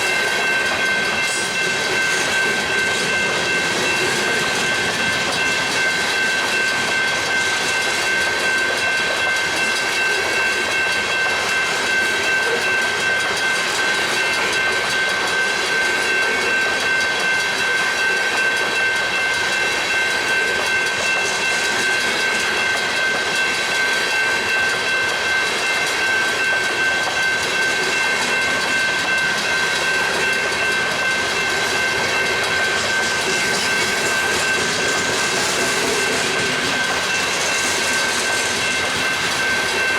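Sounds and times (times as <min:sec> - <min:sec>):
freight train rail noise: 0:00.0 - 0:39.9.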